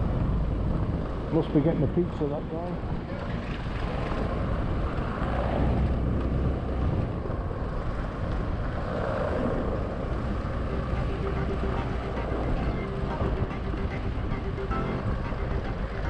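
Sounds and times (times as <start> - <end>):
tyres rumbling over cobblestones: 0.0 - 16.0.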